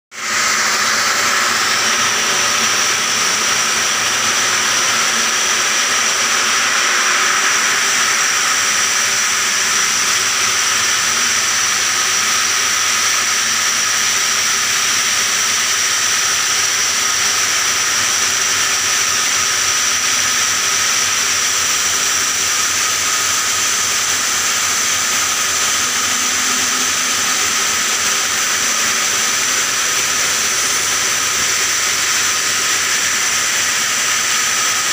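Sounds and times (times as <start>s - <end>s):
circular saw cutting stone: 0.1s - 34.9s.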